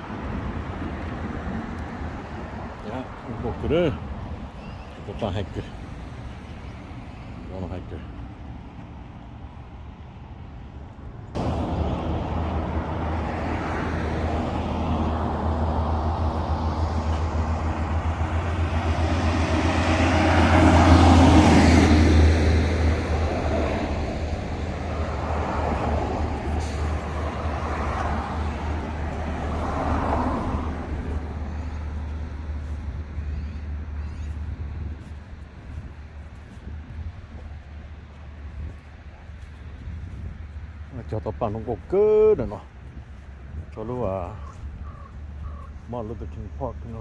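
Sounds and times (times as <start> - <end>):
motor vehicle rumble: 0.0 - 47.0
road noise: 0.0 - 47.0.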